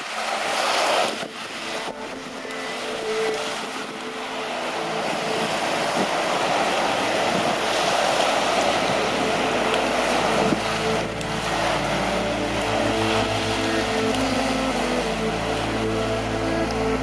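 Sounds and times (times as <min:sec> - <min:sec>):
rushing sea water: 0:00.0 - 0:17.0
wind: 0:00.0 - 0:17.0
low engine hum: 0:01.6 - 0:17.0.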